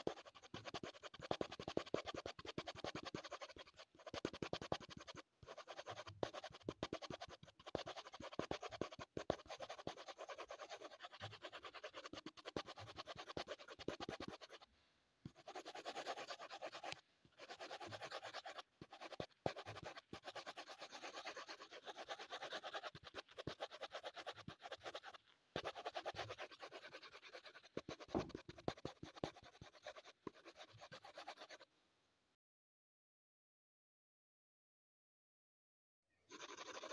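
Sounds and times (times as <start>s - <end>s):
pencil scratching on paper: 0.0s - 14.7s, 15.3s - 31.7s, 36.3s - 36.9s.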